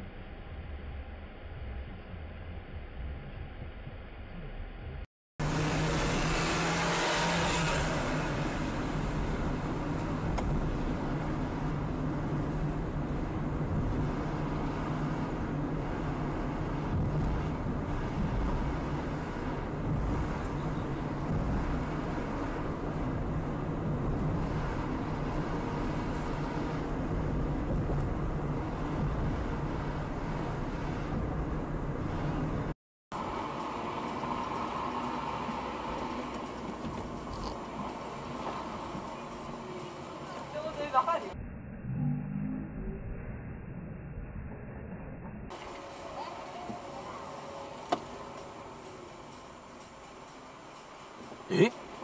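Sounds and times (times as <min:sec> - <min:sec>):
car engine hum and road noise: 0:00.0 - 0:41.4, 0:45.5 - 0:52.0.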